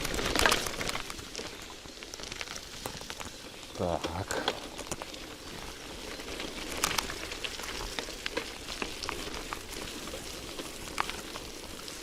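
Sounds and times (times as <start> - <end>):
bicycle tyres rolling through wet sand: 0.0 - 12.0.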